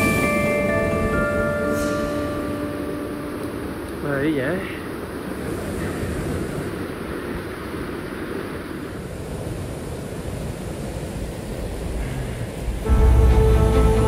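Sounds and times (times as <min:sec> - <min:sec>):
wind blowing across microphone: 0:00.0 - 0:13.7.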